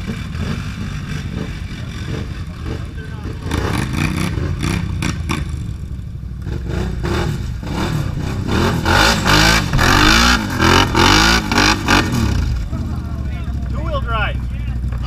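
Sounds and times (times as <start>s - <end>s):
other quads running: 0.0s - 15.0s
quad engine revving: 0.0s - 15.0s.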